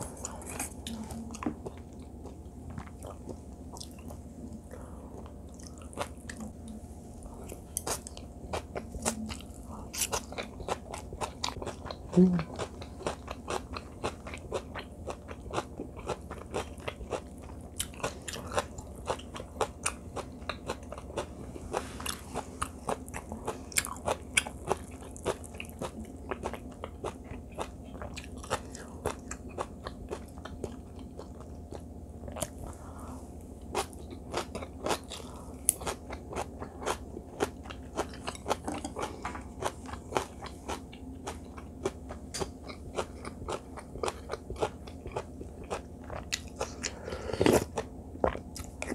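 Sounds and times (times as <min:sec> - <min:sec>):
chewing and crunching food: 0:00.0 - 0:48.9
steady low hum: 0:00.0 - 0:48.9.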